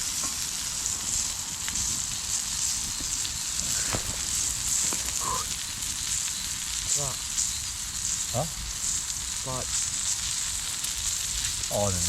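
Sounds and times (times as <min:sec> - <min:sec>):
food sizzling in a pan: 0:00.0 - 0:12.0
small pops and crackles: 0:00.0 - 0:12.0.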